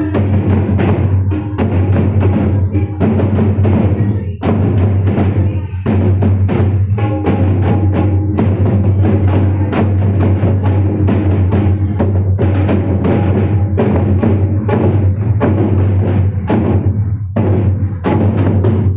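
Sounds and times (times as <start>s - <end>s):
deep drum boom: 0.0s - 18.9s
folk drums playing dance rhythm: 0.0s - 18.9s.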